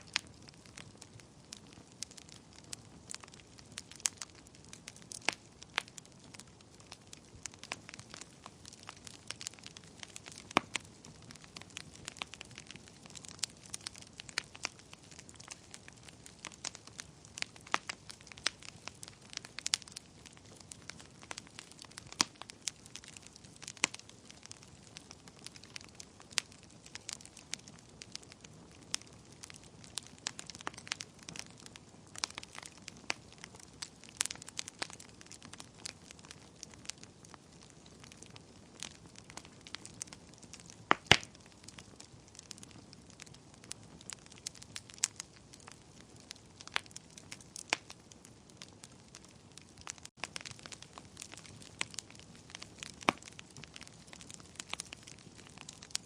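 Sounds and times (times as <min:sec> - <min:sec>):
wood fire crackling and hissing: 0:00.0 - 0:56.0.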